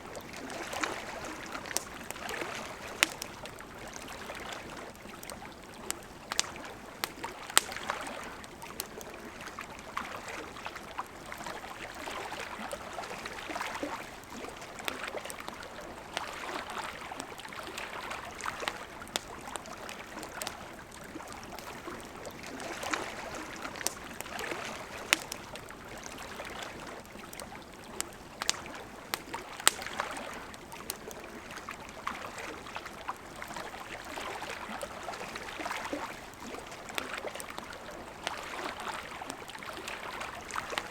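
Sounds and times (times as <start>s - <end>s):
campfire crackling and popping: 0.0s - 40.9s
river flowing: 0.0s - 40.9s.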